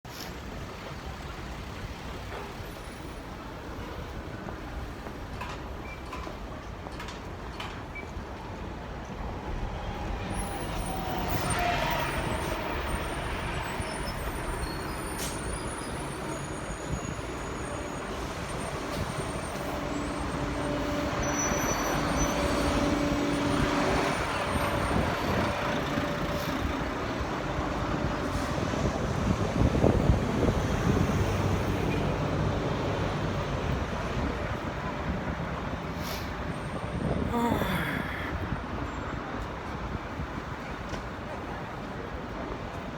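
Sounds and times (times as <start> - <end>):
vehicles passing: 8.5 - 42.9.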